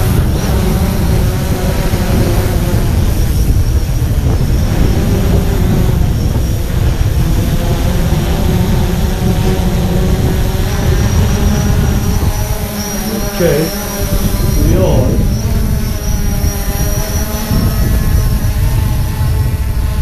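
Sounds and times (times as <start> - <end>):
drone propellers humming: 0.0 - 20.0
wind rumble on microphone: 0.0 - 20.0.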